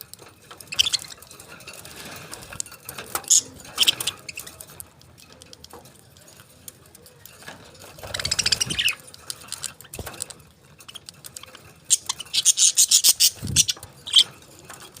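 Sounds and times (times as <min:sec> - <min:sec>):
parakeets chirping and chattering: 0:00.0 - 0:15.0.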